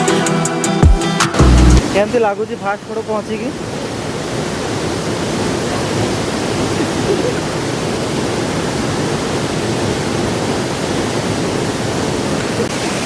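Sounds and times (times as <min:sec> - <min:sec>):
waterfall crashing into pool: 0:01.3 - 0:13.0.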